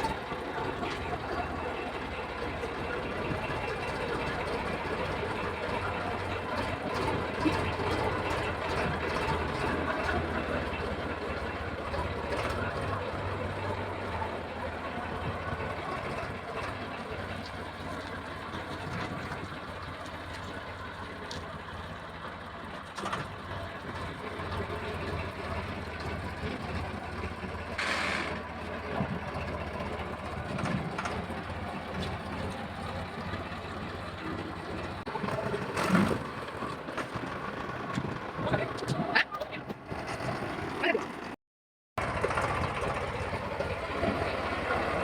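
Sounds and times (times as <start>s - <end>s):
tractor diesel engine idling: 0.0s - 41.4s, 42.0s - 45.0s.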